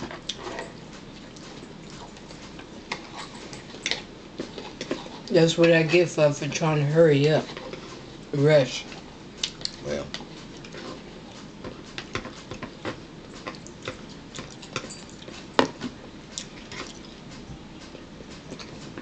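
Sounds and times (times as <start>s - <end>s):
chewing and mouth sounds: 0.0s - 5.3s, 8.8s - 19.0s.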